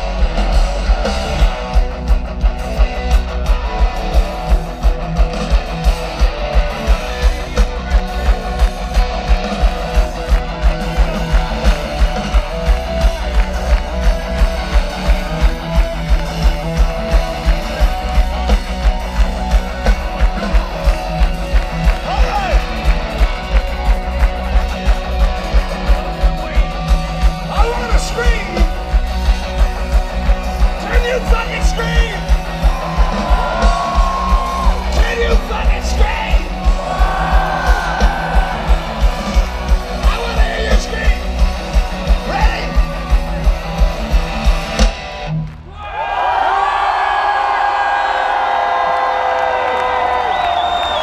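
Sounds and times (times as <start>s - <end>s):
fast kick-drum beat: 0.0s - 45.0s
live rock band playing: 0.0s - 45.6s
crowd cheering and yelling: 0.0s - 51.0s
loud electric guitars: 0.0s - 51.0s.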